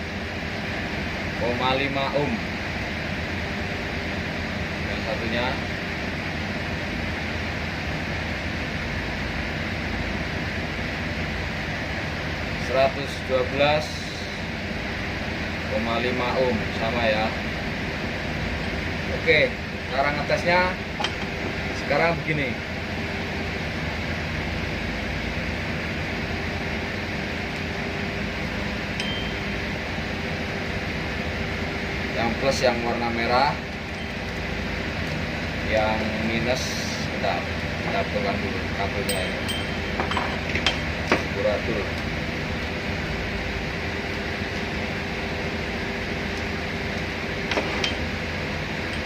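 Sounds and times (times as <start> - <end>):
machinery humming and rumbling: 0.0 - 49.0.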